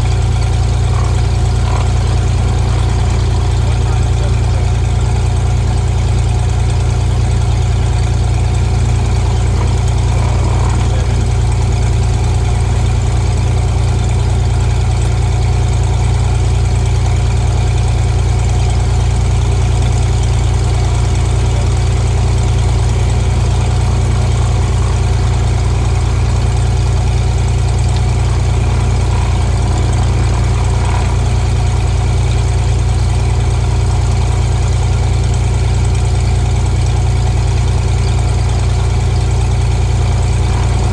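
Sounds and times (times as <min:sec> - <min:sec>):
propeller plane engine droning: 0:00.0 - 0:40.9.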